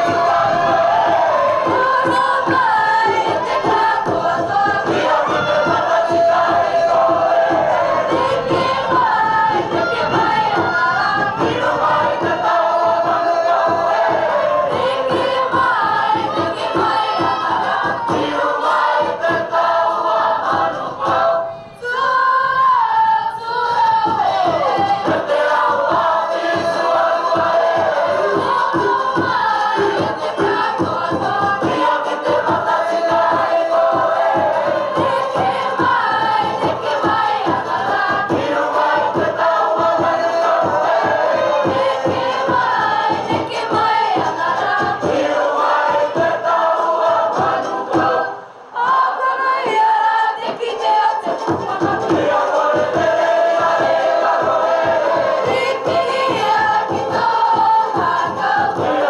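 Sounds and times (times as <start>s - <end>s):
rhythmic accompaniment: 0.0s - 21.5s, 22.6s - 59.0s
group singing in chorus: 0.0s - 59.0s.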